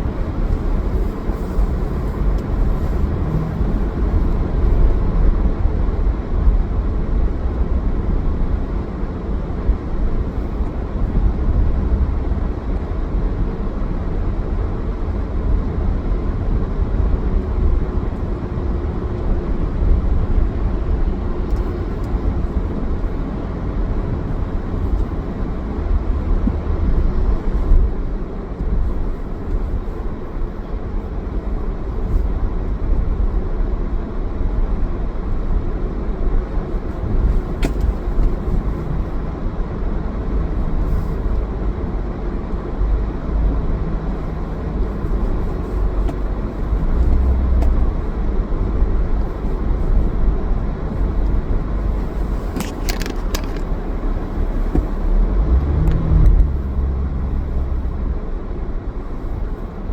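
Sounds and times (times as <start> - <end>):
car engine rumble: 0.0 - 59.9.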